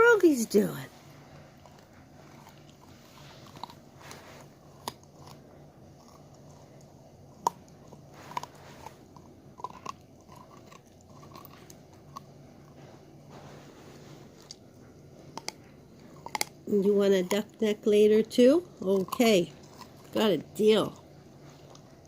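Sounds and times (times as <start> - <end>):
dog chewing and crunching: 1.1 - 22.0.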